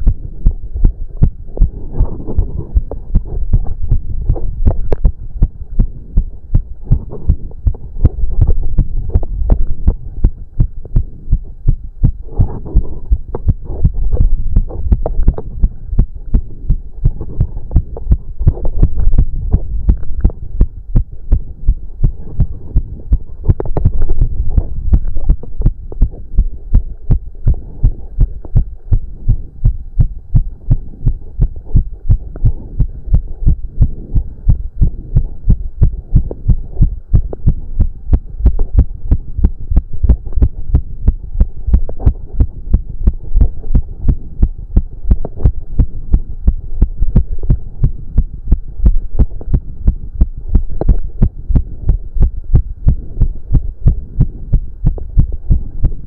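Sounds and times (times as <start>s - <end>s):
heart beating fast: 0.0s - 56.0s.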